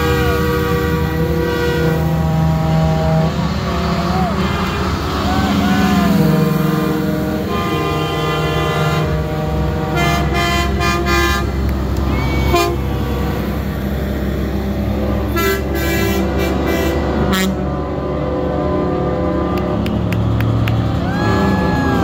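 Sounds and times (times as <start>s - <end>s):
diesel engines rumbling: 0.0s - 22.0s
truck air horns: 0.0s - 22.0s.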